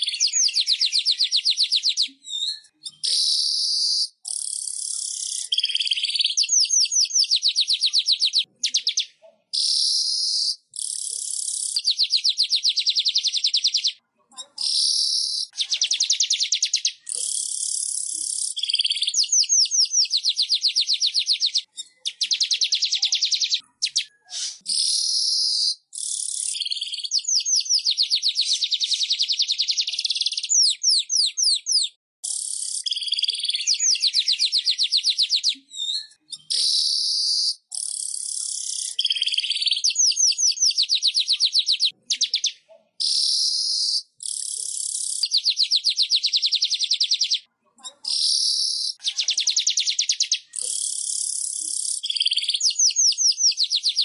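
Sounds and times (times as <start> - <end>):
weaver bird chattering trills: 0.0 - 47.5, 48.1 - 54.0.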